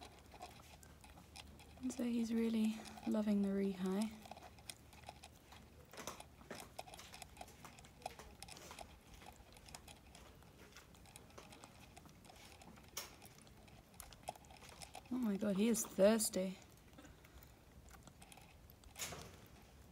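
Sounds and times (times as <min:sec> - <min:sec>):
monkey sucking from bottle: 0:00.0 - 0:19.9.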